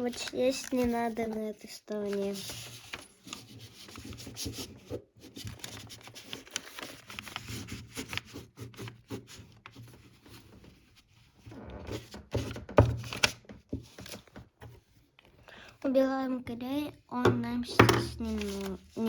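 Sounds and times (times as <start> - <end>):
paper rustling: 0.0 - 15.9, 17.5 - 19.0.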